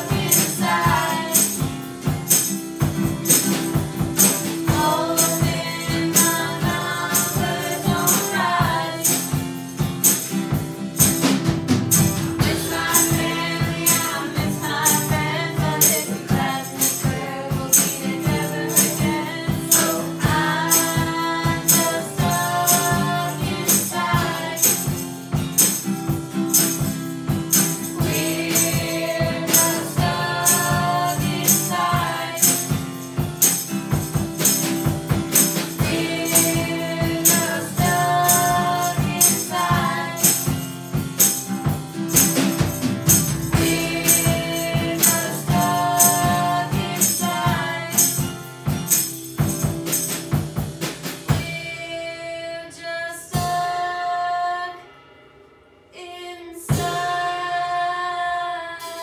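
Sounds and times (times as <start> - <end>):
voices singing together: 0.0 - 10.3, 11.9 - 25.9, 27.5 - 41.3, 42.1 - 48.4, 51.3 - 54.8, 56.0 - 59.0
sharp percussive strokes: 0.0 - 50.4
strummed acoustic guitar: 0.0 - 51.9.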